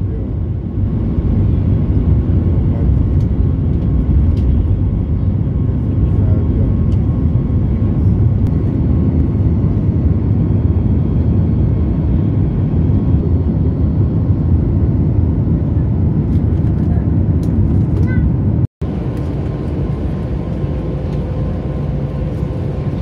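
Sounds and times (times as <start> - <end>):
faint engine whine: 0.0 - 23.0
jet engine low rumble: 0.0 - 23.0.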